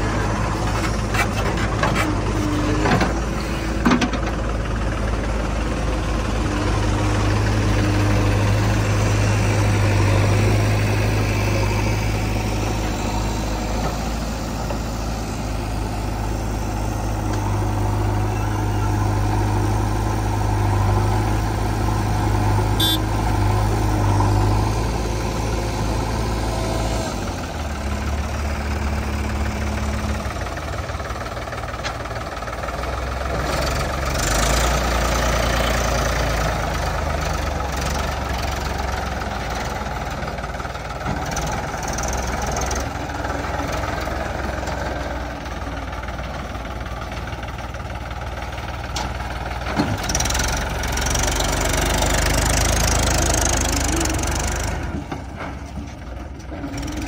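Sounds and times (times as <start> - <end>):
diesel engines running: 0.0 - 57.0
tractor pulling away: 0.0 - 57.0.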